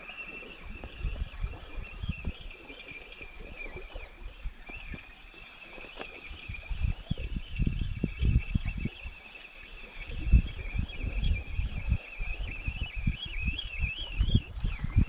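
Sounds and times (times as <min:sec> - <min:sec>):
fishing reel whirring: 0:00.0 - 0:15.0
wind buffeting microphone: 0:00.0 - 0:15.0.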